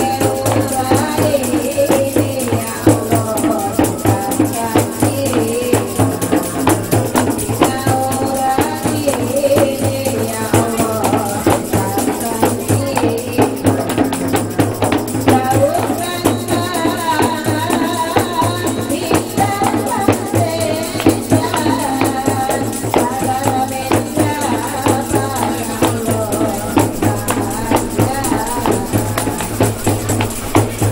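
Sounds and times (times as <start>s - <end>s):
quick percussion beat: 0.0s - 30.9s.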